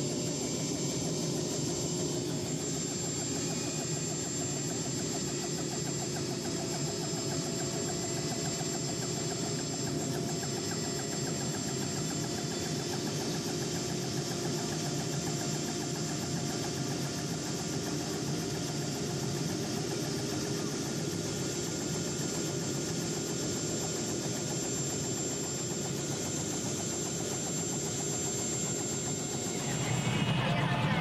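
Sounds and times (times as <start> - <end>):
helicopter idling: 0.0 - 31.0.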